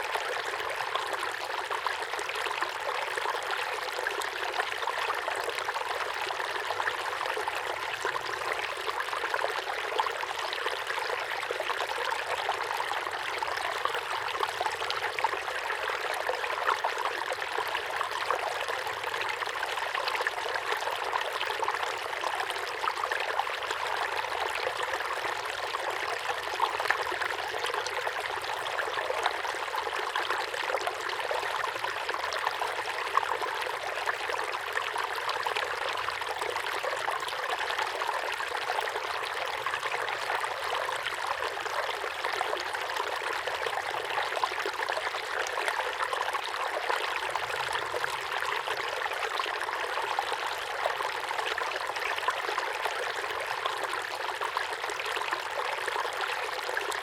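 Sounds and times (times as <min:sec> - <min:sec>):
small waterfall into a pond: 0:00.0 - 0:57.0.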